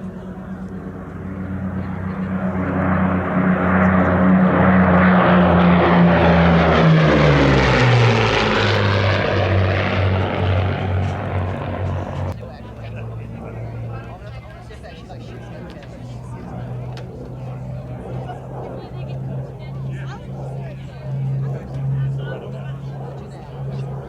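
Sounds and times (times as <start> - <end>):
aircraft engines on loud flypast: 0.0 - 24.0.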